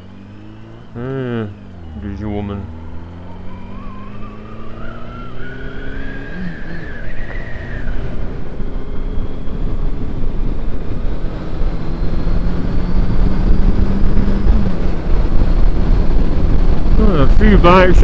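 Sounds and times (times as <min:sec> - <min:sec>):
motorcycle engine: 0:00.0 - 0:18.0
road and wind rumble: 0:00.0 - 0:18.0.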